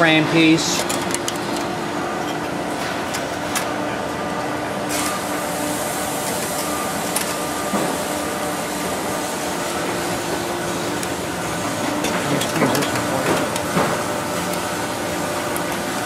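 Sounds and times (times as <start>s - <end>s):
workshop machinery humming: 0.0s - 16.0s.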